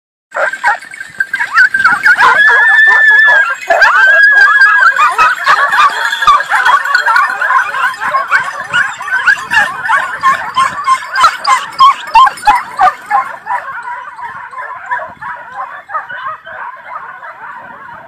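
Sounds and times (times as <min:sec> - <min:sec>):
dogs yelping and barking: 0:00.3 - 0:18.0.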